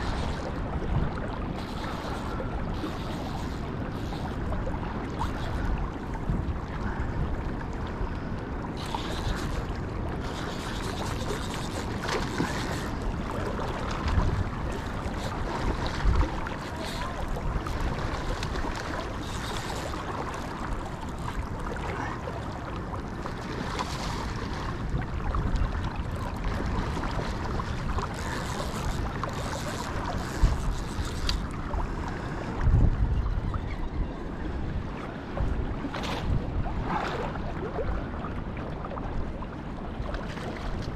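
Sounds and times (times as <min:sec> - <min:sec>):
shallow water washing: 0:00.0 - 0:40.9
wind buffeting microphone: 0:00.0 - 0:40.9.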